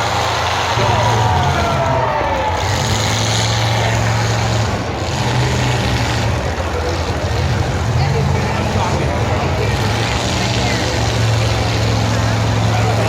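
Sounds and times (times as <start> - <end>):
broad rush of noise: 0.0 - 13.0
loud vehicle engines droning: 0.0 - 13.0.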